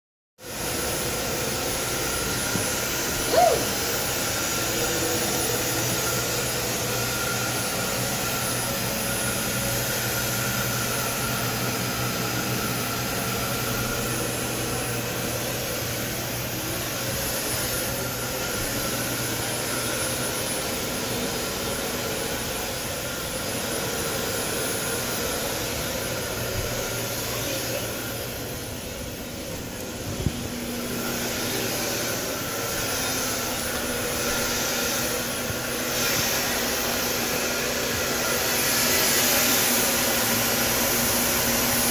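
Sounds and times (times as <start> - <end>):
vacuum cleaner running: 0.4 - 41.9.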